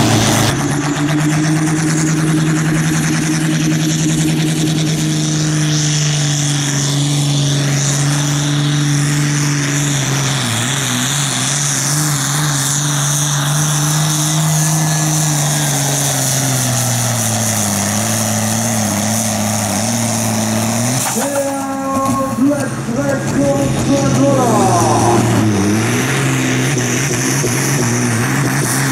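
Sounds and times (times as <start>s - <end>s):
tractor diesel engine running flat out: 0.0s - 28.9s.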